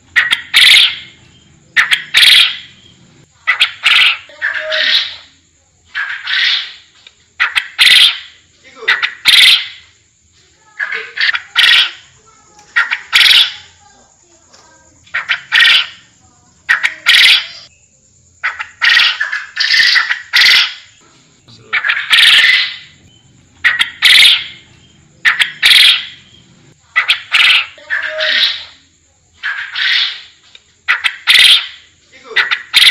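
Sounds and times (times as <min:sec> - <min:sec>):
forest quail calling: 0:00.0 - 0:05.3, 0:05.9 - 0:09.9, 0:10.7 - 0:13.8, 0:15.0 - 0:17.7, 0:18.4 - 0:28.8, 0:29.4 - 0:32.9.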